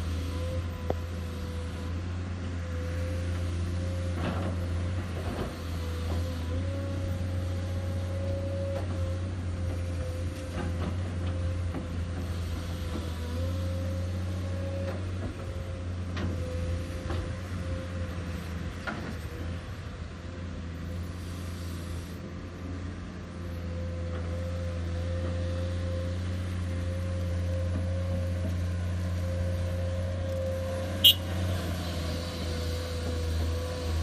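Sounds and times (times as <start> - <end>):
engine whine: 0.0 - 34.0
excavator diesel engine running: 0.0 - 34.0.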